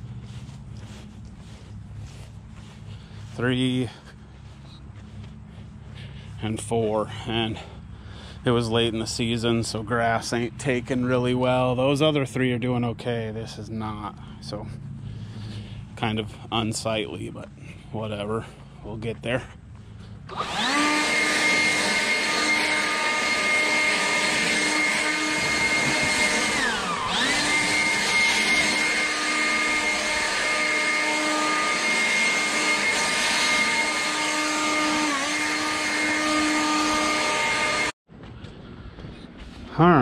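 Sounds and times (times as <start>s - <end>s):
leaf blower whining: 0.0s - 38.0s.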